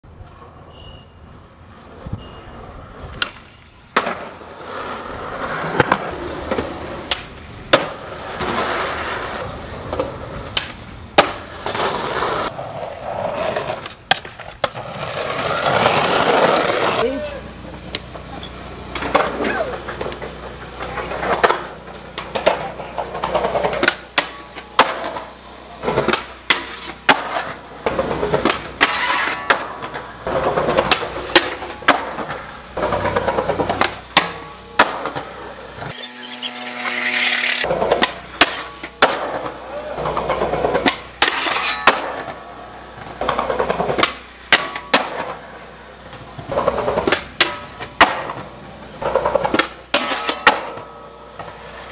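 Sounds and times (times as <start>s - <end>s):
skateboard wheels rolling: 0.1s - 51.9s
skateboard popping and slapping: 3.0s - 17.0s, 18.9s - 35.9s, 37.6s - 51.9s.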